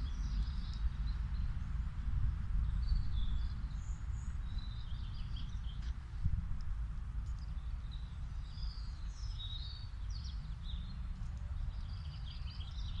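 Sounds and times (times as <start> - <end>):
low background rumble: 0.0 - 13.0
songbirds chirping: 0.0 - 13.0.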